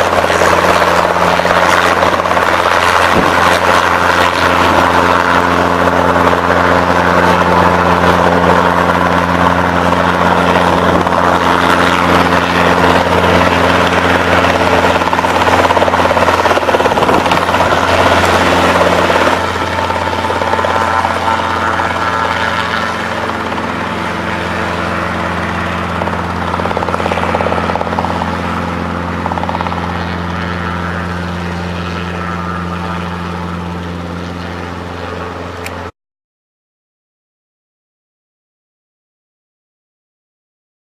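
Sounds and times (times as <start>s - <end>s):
helicopter engine and rotors droning: 0.0s - 35.9s.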